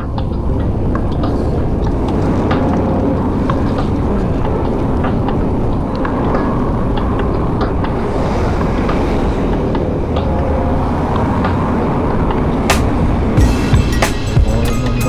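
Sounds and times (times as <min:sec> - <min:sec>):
bike tyre road noise: 0:00.0 - 0:13.5
wind buffeting microphone: 0:00.0 - 0:13.6.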